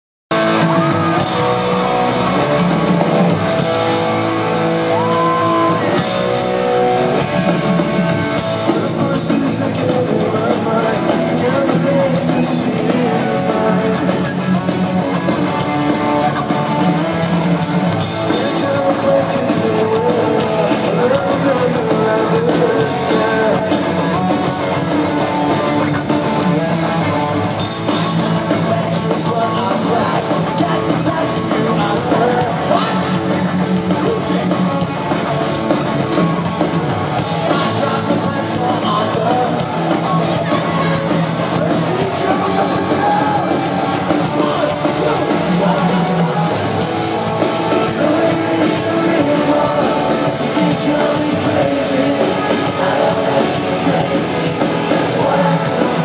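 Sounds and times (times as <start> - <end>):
drums: 0.3 - 56.0
electric guitars: 0.3 - 56.0
lead vocals singing: 0.4 - 14.8, 15.8 - 56.0.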